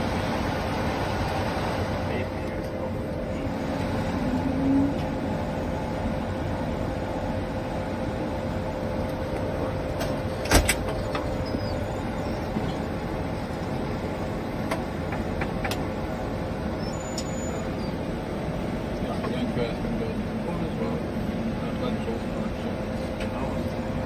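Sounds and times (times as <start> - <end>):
cockpit engine hum: 0.0 - 24.0.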